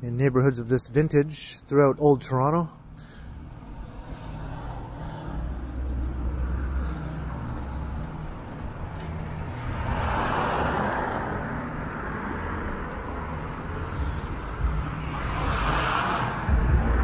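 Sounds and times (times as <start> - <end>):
steady low rumble: 0.9 - 17.0
car tyre noise passing: 3.2 - 17.0.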